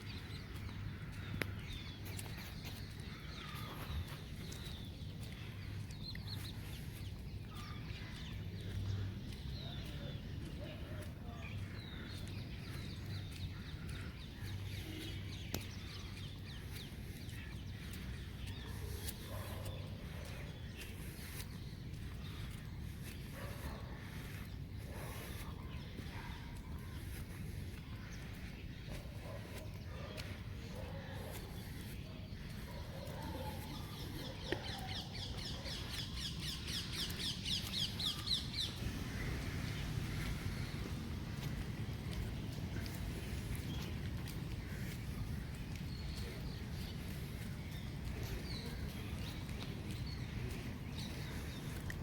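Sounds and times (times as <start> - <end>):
low outdoor background noise: 0.0 - 52.0.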